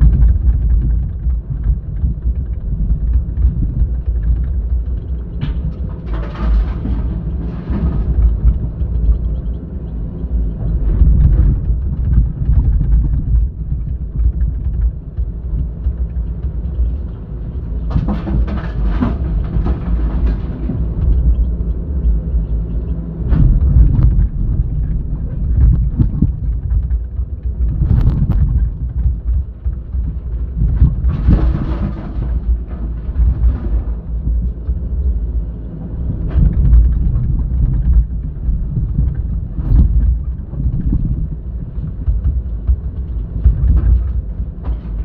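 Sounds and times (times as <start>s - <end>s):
excavator diesel engine rumbling: 0.0s - 45.0s.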